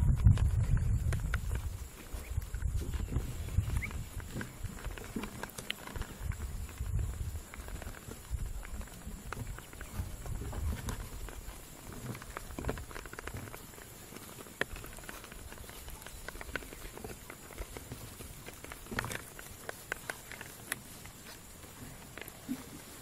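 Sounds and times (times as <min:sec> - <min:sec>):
ducks pecking bill clicks: 0:00.1 - 0:23.0.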